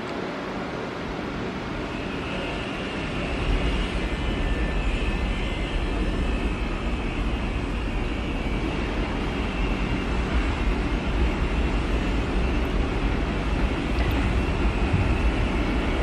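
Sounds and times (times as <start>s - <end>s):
faint high whine: 0.0s - 16.0s
subway train rumble: 0.0s - 16.0s.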